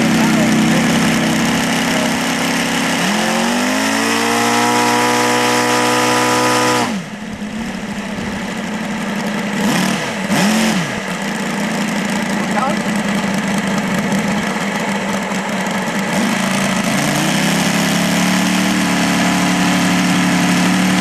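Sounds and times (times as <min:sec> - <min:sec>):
model aircraft engine revving: 0:00.0 - 0:21.0.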